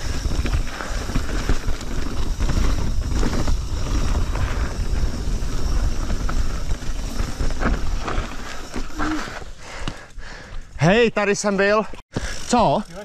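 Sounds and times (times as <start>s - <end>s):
bike knocking and rattling: 0.0s - 11.0s, 12.1s - 13.0s
bike tyres rumbling on trail: 0.0s - 13.0s.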